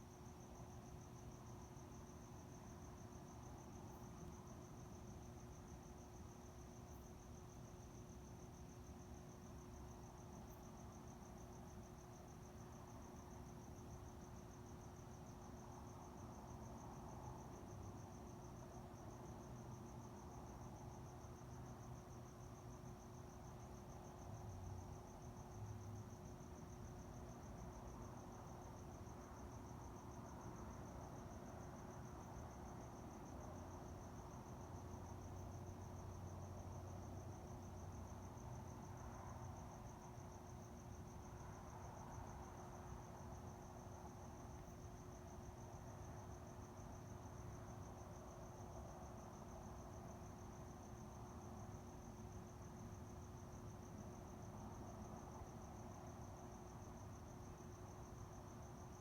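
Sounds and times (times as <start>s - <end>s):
crickets trilling: 0.2s - 59.0s.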